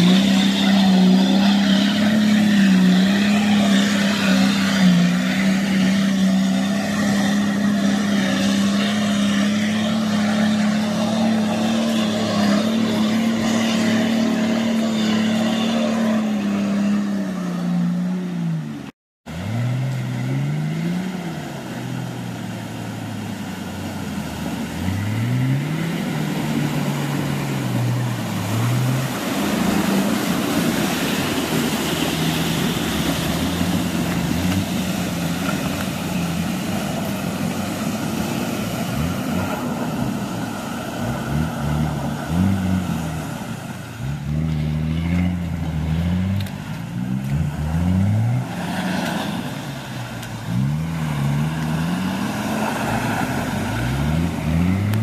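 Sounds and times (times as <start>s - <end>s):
off-road engines revving: 0.0s - 55.0s.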